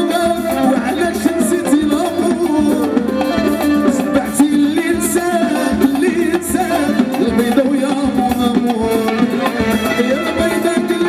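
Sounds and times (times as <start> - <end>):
live band playing: 0.0 - 11.0
man singing: 0.0 - 11.0.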